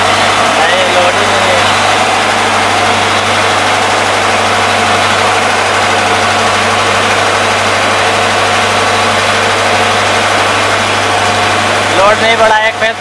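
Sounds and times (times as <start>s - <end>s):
engine generator running: 0.0s - 13.0s.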